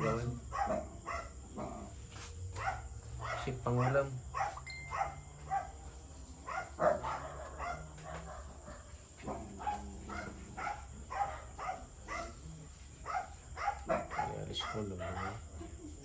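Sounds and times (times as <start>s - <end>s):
dog barking: 0.0s - 1.8s, 2.5s - 15.6s.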